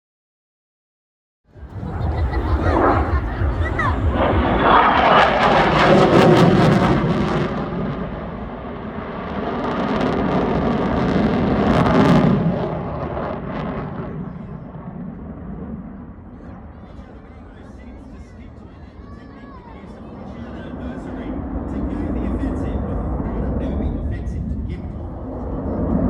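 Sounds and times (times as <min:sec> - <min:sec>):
fighter jet passing by: 0:01.6 - 0:18.5, 0:20.1 - 0:26.0.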